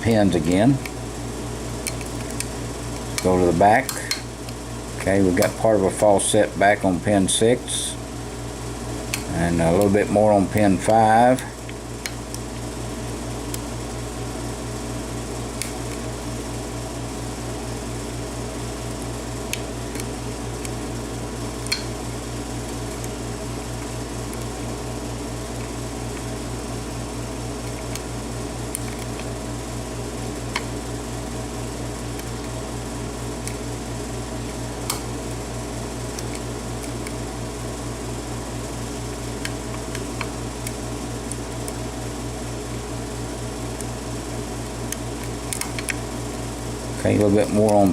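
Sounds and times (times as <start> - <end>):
motor hum: 0.0 - 47.9.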